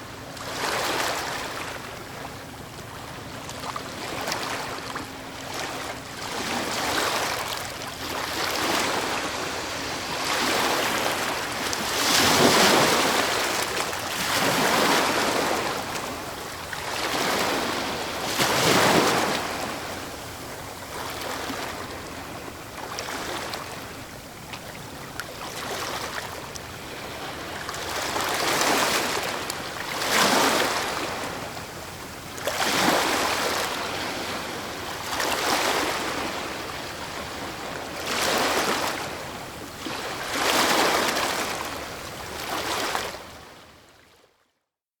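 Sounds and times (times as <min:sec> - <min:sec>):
ocean waves breaking: 0:00.3 - 0:43.4.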